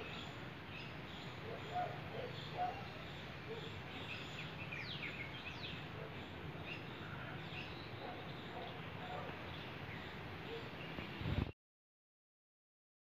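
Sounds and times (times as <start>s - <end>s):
steady low background noise: 0.0s - 11.4s
birds chirping: 0.0s - 11.5s.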